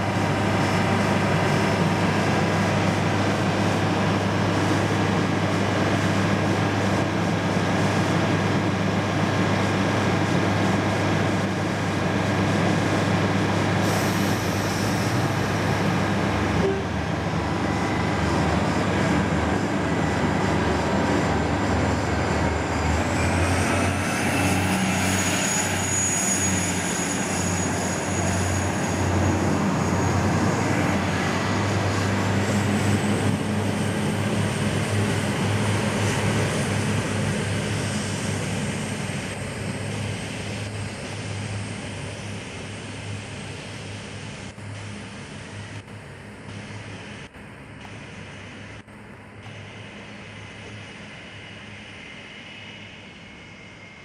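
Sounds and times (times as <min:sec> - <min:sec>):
train engine low hum: 0:00.0 - 0:54.0
train high whine: 0:00.0 - 0:54.0.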